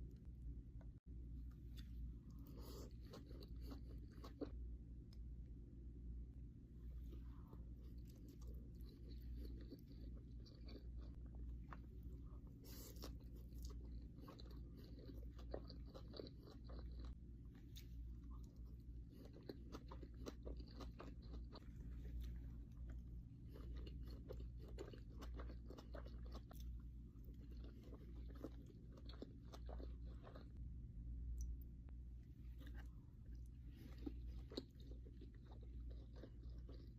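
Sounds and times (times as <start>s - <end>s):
steady low hum: 0.0s - 36.9s
chewing with wet mouth clicks: 1.7s - 5.2s, 7.8s - 30.6s, 32.5s - 36.9s.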